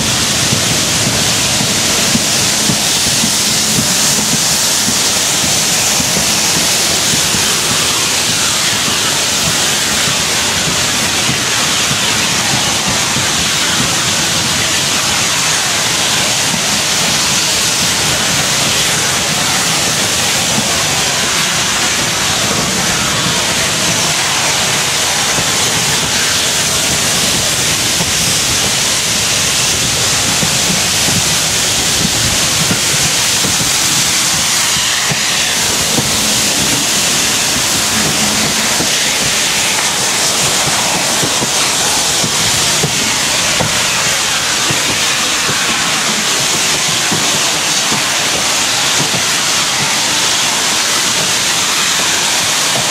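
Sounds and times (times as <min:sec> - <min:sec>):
steam locomotive exhaust rushing: 0:00.0 - 0:52.9.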